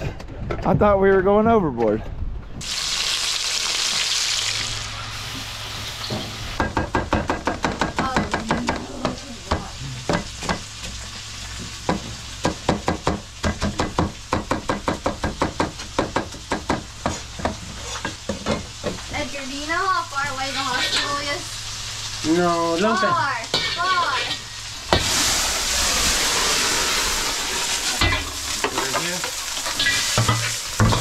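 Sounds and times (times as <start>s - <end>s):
lobsters sizzling in a wok: 2.6s - 31.0s.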